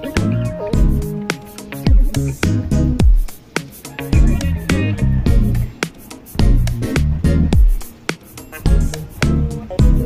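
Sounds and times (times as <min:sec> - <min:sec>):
background music with guitar and bass: 0:00.0 - 0:10.0.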